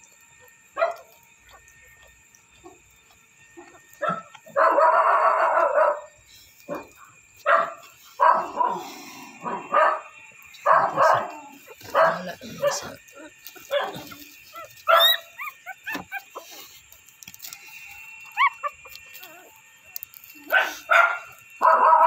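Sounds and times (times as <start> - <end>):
dogs barking: 0.4 - 2.9, 3.5 - 17.5, 18.2 - 19.7, 20.3 - 22.0.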